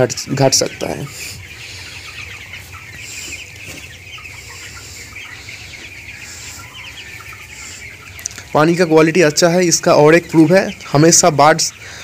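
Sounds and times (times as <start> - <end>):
chickens clucking and cheeping: 0.0 - 12.0.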